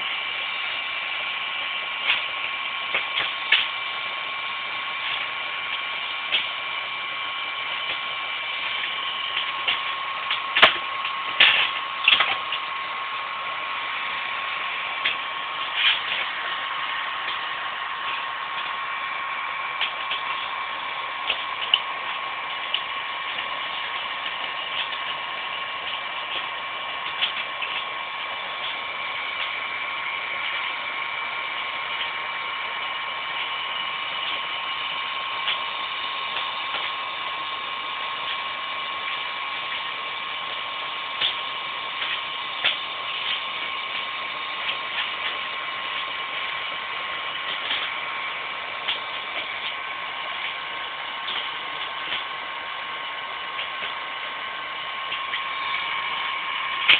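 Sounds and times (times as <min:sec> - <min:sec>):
heat gun blowing with whine: 0:00.0 - 0:56.9.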